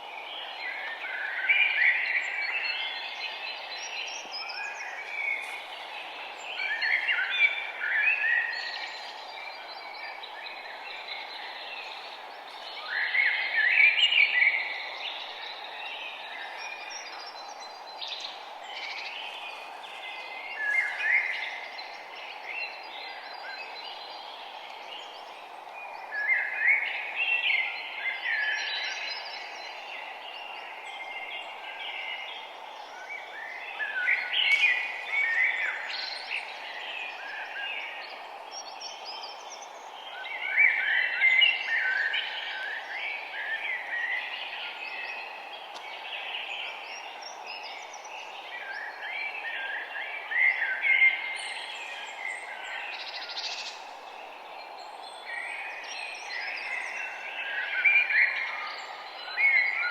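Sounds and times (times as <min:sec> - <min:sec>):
songbird singing: 0:00.0 - 0:59.9
steady background hiss: 0:00.0 - 0:59.9.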